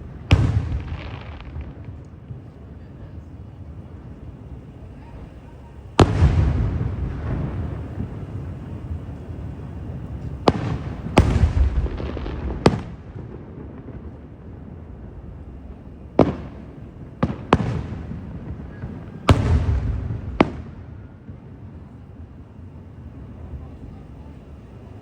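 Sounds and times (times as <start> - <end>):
fireworks booming: 0.0 - 25.0.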